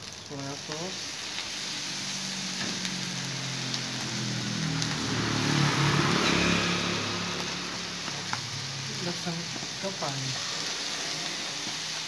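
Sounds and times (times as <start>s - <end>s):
fried rice sizzling in wok: 0.0s - 12.0s.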